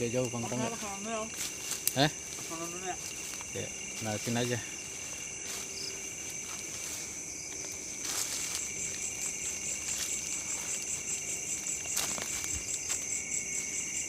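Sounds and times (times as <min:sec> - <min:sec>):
crickets trilling: 0:00.0 - 0:14.0
pulsing insect chirp: 0:00.0 - 0:14.0.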